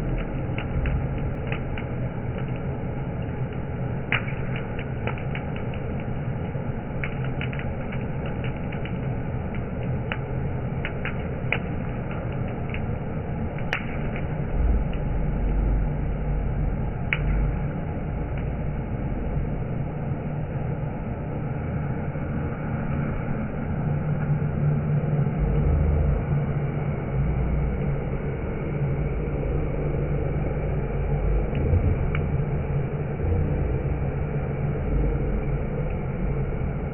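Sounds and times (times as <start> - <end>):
fire crackling: 0.0 - 36.9.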